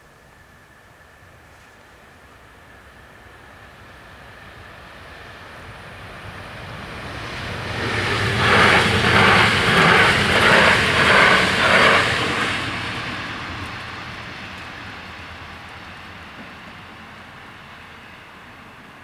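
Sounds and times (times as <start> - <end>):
electric train passing at speed: 0.0 - 19.0
rhythmic pulsing of train wheels: 0.0 - 19.0.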